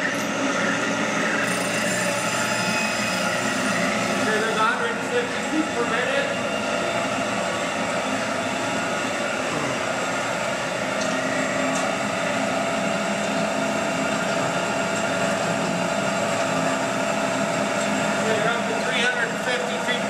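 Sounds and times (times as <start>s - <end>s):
band saw humming and whining: 0.0s - 20.0s.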